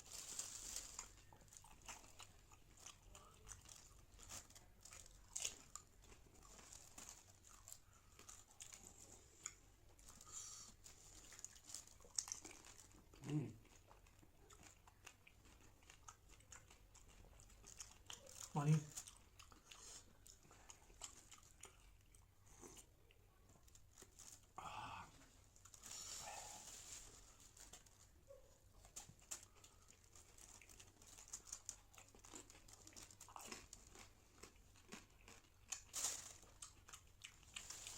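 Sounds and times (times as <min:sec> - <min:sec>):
crunching of crisp food: 0:00.0 - 0:24.6, 0:25.2 - 0:37.9.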